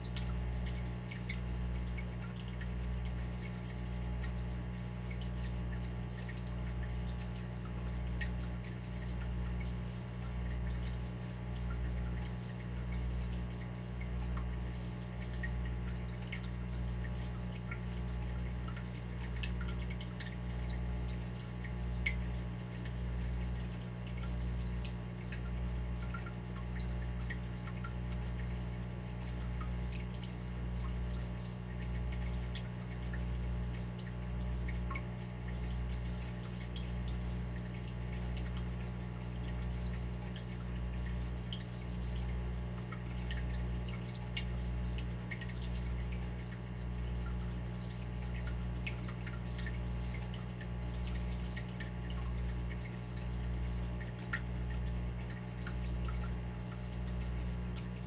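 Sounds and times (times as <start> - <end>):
water dripping: 0.0 - 58.0.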